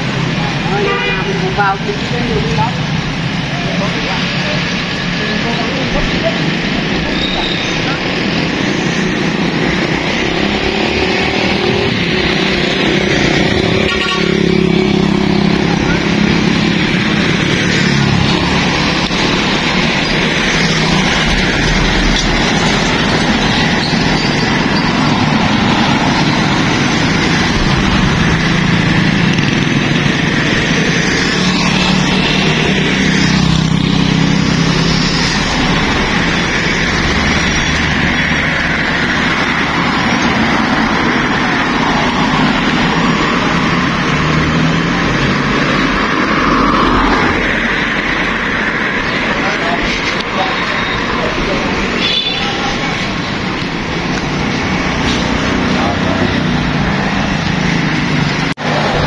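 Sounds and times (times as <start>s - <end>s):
motorbikes passing: 0.0s - 59.0s
trucks passing: 0.0s - 59.0s.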